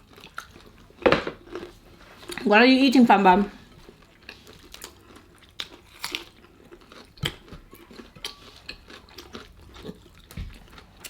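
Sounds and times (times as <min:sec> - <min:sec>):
chewing crispy chicken: 0:00.0 - 0:02.4, 0:03.9 - 0:11.0.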